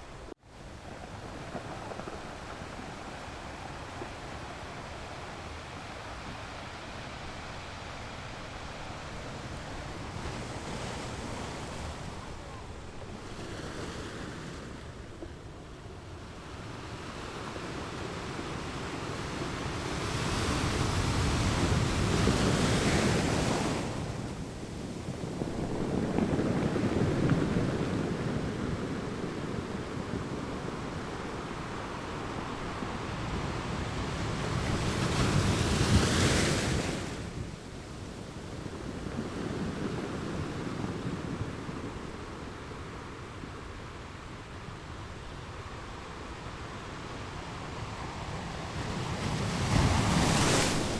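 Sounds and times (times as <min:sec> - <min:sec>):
ocean waves breaking on shore: 0:00.0 - 0:50.9.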